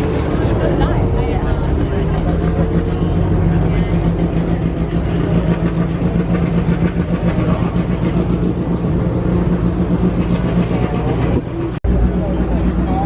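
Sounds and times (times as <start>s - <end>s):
engine droning steadily: 0.0s - 13.0s.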